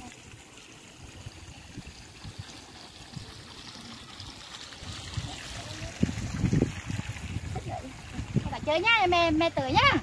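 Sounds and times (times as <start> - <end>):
water running from a hose: 0.0 - 10.0.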